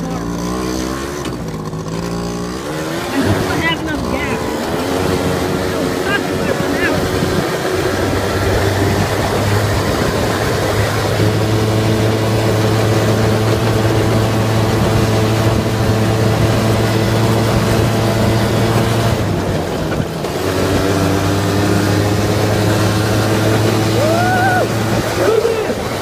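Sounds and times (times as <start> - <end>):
quad engine running: 0.0 - 26.0.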